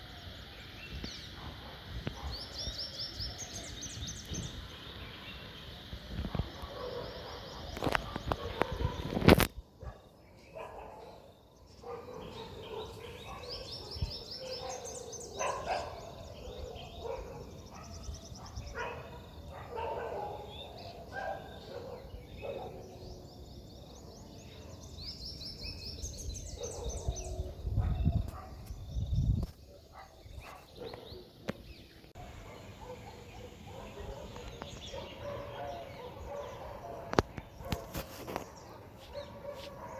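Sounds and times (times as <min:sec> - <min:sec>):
bird song rising run: 0:00.0 - 0:39.9
wild birds calling: 0:00.0 - 0:39.9.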